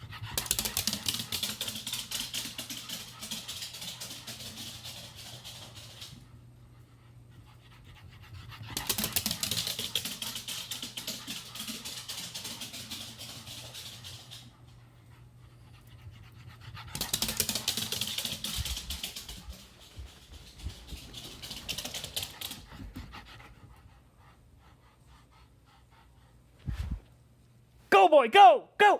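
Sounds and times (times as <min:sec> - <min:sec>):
dog panting rapidly: 0:00.0 - 0:26.6.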